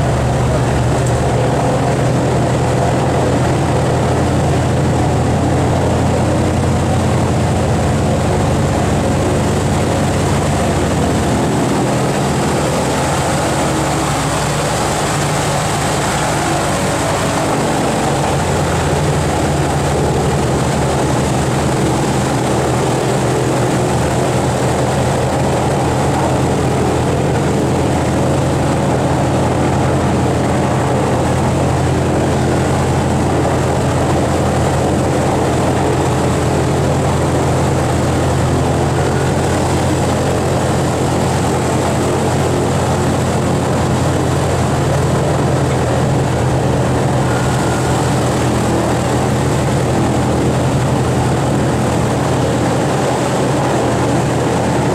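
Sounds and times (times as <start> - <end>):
aircraft propeller engines droning: 0.0 - 54.9.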